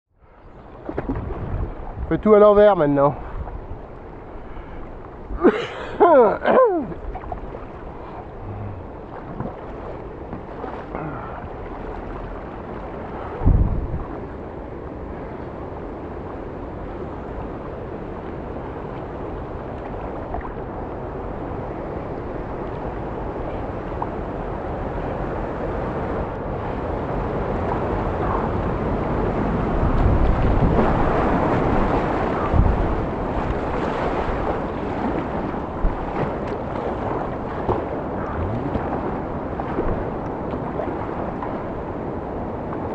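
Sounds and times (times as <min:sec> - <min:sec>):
paddle strokes splashing: 0:00.3 - 0:05.6, 0:06.6 - 0:24.2, 0:27.5 - 0:42.9
white water rushing: 0:00.8 - 0:42.9.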